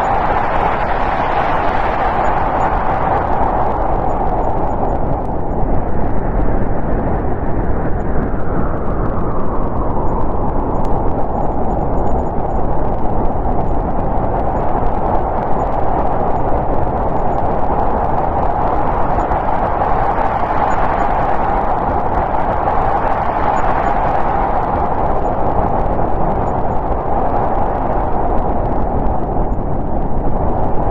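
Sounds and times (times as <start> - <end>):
high wind howl: 0.0 - 30.9
snowstorm wind roaring: 0.0 - 30.9.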